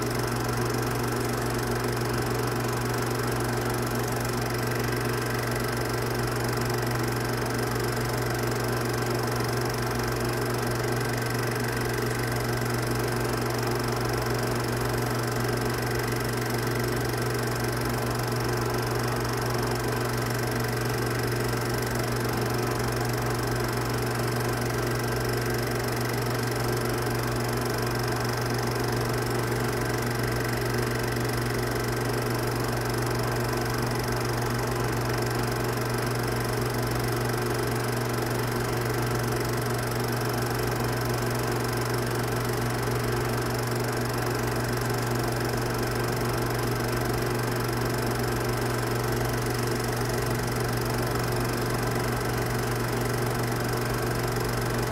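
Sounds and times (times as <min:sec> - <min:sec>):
film projector motor whirring: 0:00.0 - 0:54.9.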